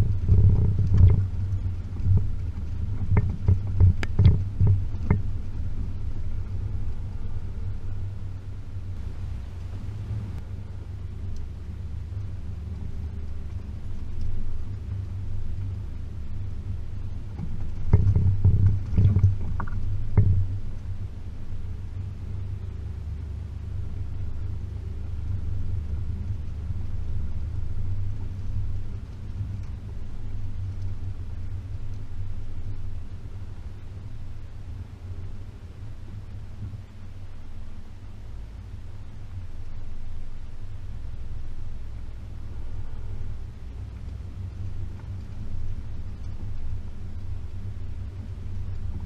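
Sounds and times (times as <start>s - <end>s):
car engine running: 0.0s - 49.0s.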